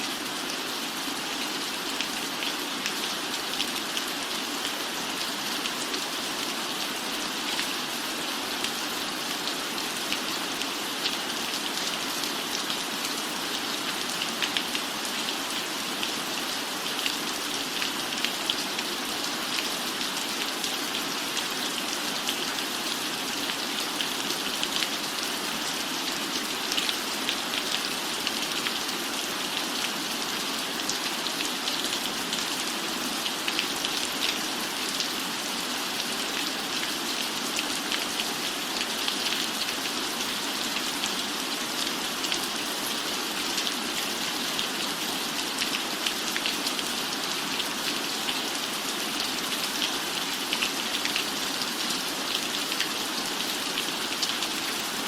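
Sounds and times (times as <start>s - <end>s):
rain on roof: 0.1s - 55.0s.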